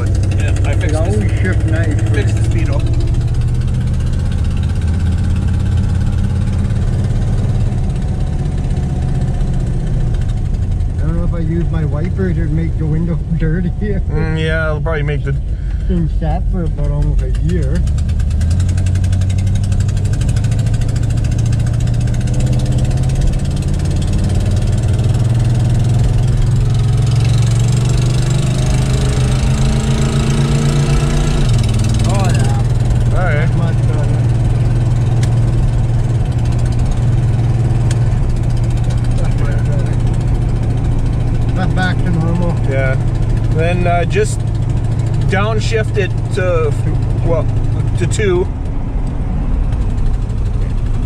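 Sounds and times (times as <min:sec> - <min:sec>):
car engine droning inside cabin: 0:00.0 - 0:51.0.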